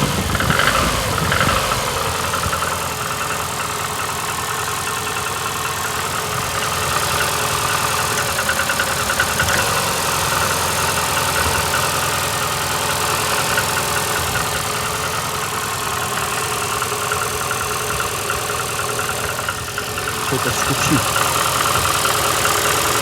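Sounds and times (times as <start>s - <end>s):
car engine idling rough: 0.0s - 23.0s
fast ticking engine knock: 0.0s - 23.0s.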